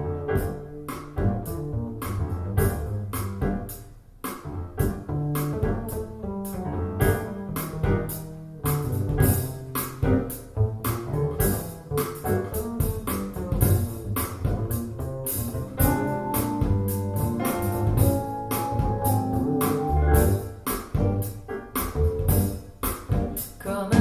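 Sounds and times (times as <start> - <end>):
instrumental music with drum beat: 0.0 - 24.0.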